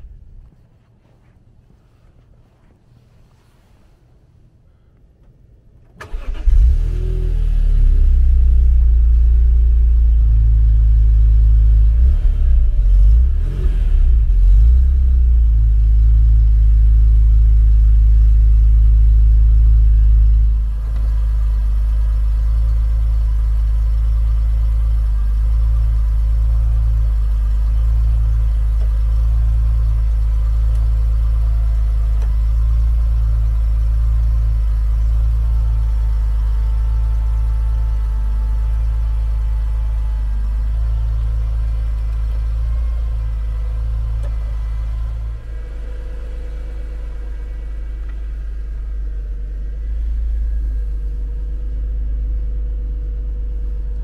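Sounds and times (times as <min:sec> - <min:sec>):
car engine starting and idling: 0:05.0 - 0:54.0.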